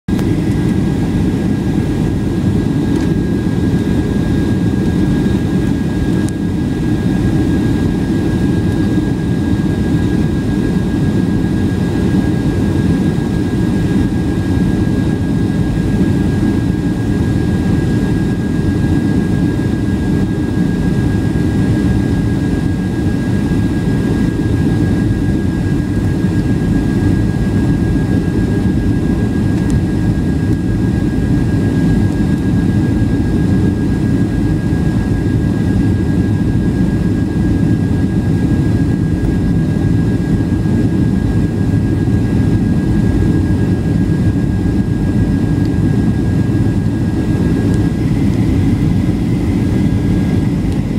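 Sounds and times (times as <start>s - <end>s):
jet engine roar in cabin: 0.1s - 50.9s.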